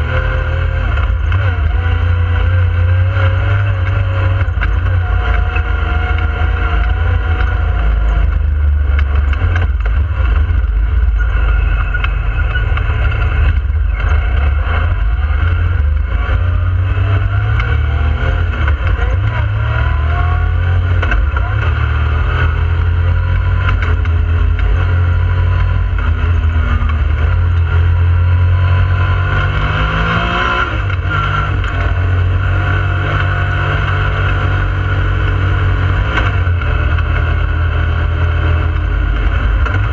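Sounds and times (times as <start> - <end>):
engine revving: 0.0 - 39.9.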